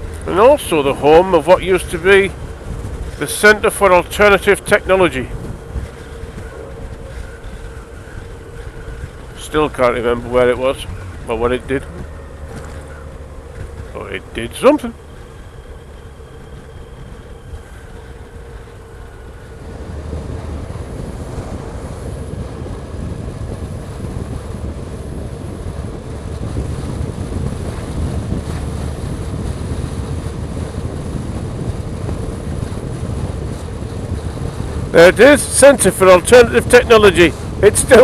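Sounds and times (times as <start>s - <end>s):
motorcycle riding: 0.0s - 38.0s
wind buffeting microphone: 0.0s - 38.0s.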